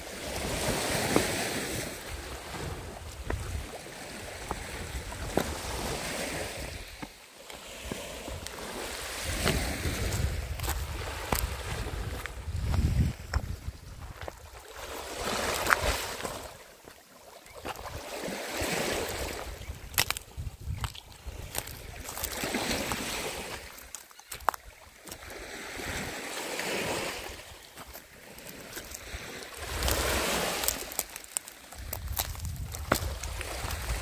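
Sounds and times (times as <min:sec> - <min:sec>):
small waves on pebbly shore: 0:00.0 - 0:34.0.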